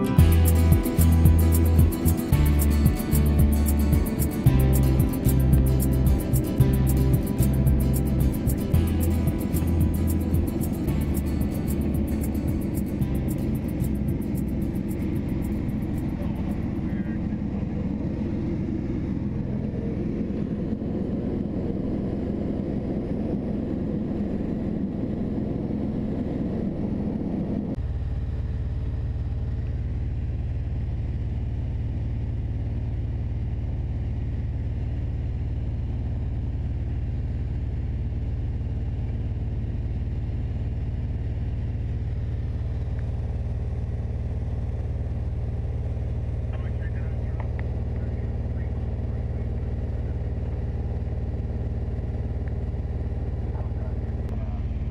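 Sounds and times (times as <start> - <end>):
aircraft cabin drone: 0.0 - 54.9
light aircraft engine and propeller: 0.0 - 54.9.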